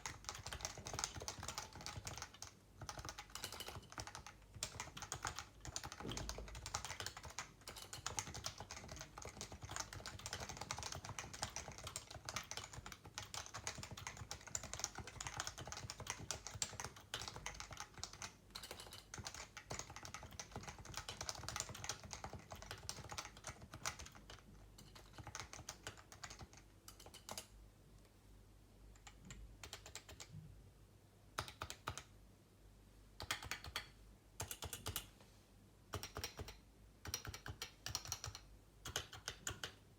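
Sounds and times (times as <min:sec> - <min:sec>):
keyboard typing: 0:00.0 - 0:27.5, 0:28.9 - 0:30.4, 0:31.4 - 0:32.1, 0:33.2 - 0:35.1, 0:35.9 - 0:39.8.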